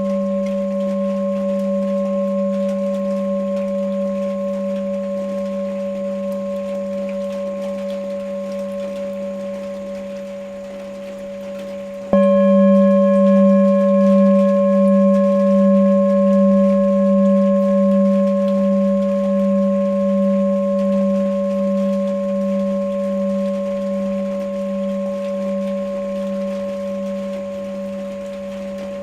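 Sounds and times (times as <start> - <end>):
singing bowl ringing: 0.0 - 29.0.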